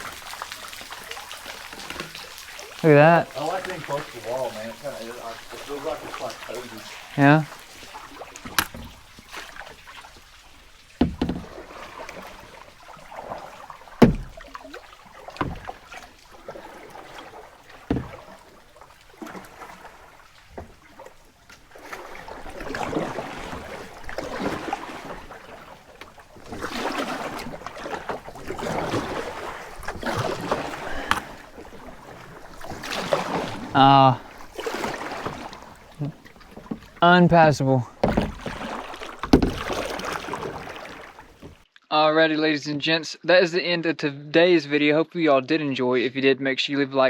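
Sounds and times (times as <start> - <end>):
paddle knocking on hull: 0.0 - 41.6
paddle strokes splashing water: 0.0 - 41.7.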